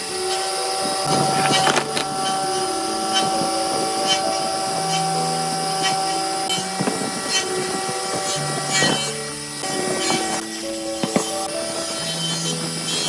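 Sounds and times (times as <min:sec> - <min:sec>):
soft held-note music: 0:00.0 - 0:13.0.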